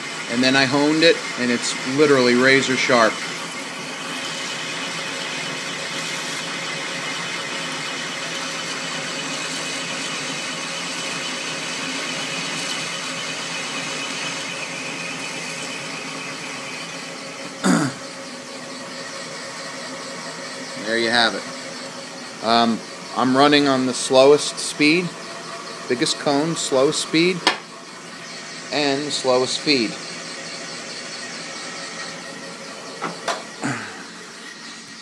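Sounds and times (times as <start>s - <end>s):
lathe machine drone: 0.0s - 35.0s
screeching motor bearings: 0.0s - 35.0s.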